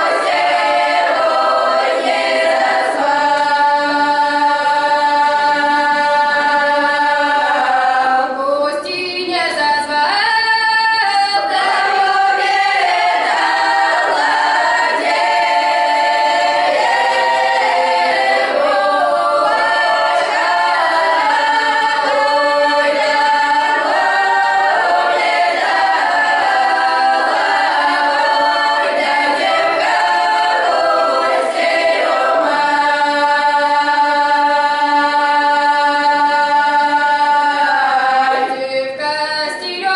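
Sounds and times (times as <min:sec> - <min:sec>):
children singing a cappella: 0:00.0 - 0:39.9.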